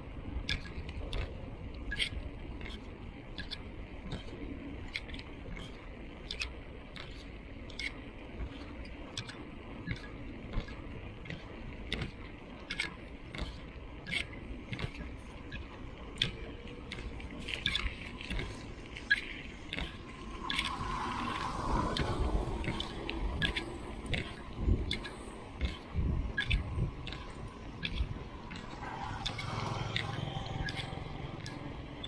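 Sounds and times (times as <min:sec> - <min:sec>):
bicycle tyres rumbling on concrete: 0:00.0 - 0:32.0
bike clicks and rattles: 0:00.0 - 0:32.0.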